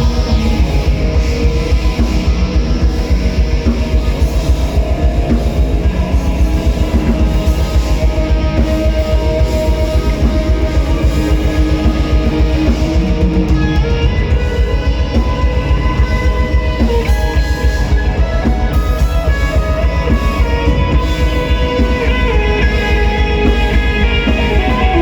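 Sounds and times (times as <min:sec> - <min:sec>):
heavy metal band playing live: 0:00.0 - 0:25.0.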